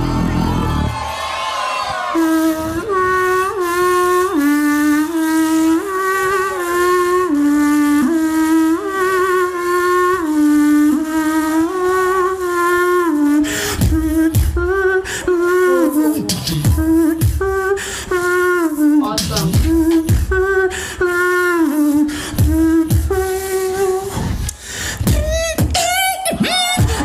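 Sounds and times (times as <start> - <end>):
beatboxing: 2.2 - 27.0.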